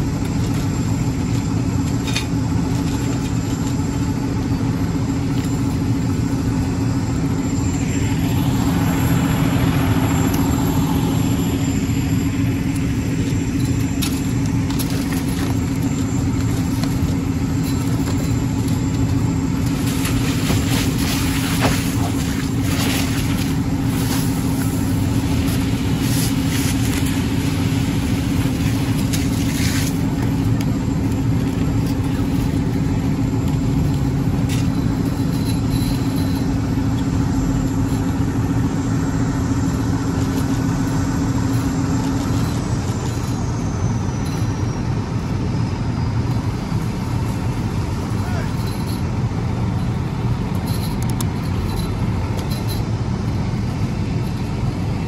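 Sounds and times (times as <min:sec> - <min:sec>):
fire engine motor and pump drone: 0:00.0 - 0:55.0.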